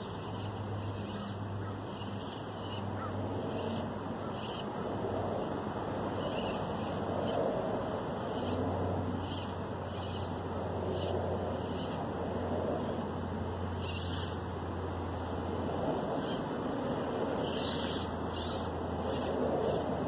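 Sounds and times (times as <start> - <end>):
outdoor background noise: 0.0 - 20.0
small electric motor whirring: 0.0 - 20.0.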